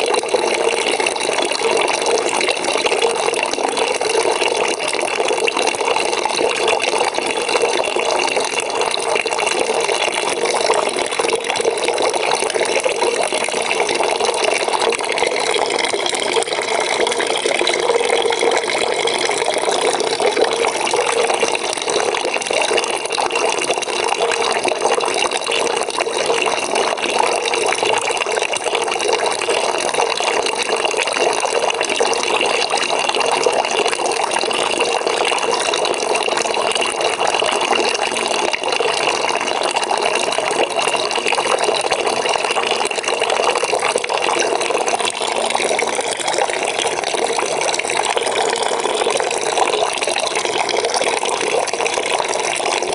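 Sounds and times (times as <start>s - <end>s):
water pouring into a bucket: 0.0s - 52.9s.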